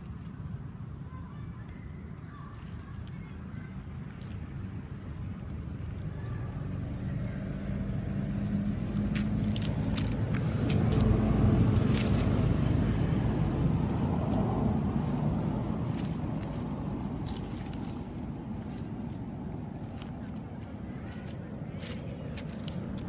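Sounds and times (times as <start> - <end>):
dry leaves crackling: 0.0 - 23.0
vehicle engine passing by: 4.2 - 23.0.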